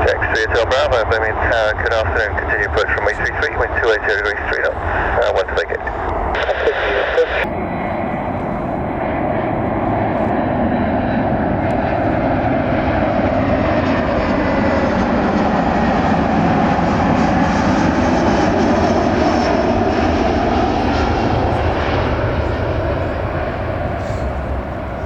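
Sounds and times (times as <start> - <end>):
airliner engines drone: 0.0 - 25.0.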